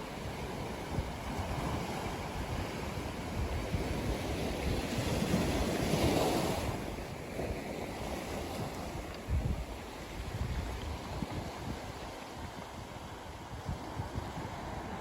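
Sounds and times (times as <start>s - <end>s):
ocean waves breaking: 0.0s - 15.0s
wind rumble on microphone: 0.0s - 15.0s.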